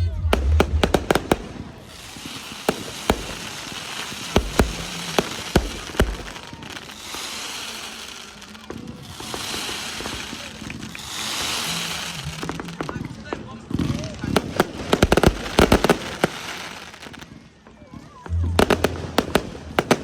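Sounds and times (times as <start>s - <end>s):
fireworks bangs: 0.0s - 17.5s, 18.6s - 20.0s
fireworks hissing crackle: 0.0s - 17.6s, 18.6s - 20.0s.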